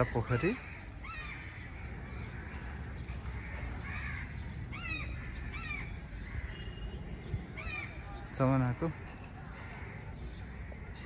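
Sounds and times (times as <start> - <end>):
crows cawing: 0.0 - 6.8, 7.5 - 11.0.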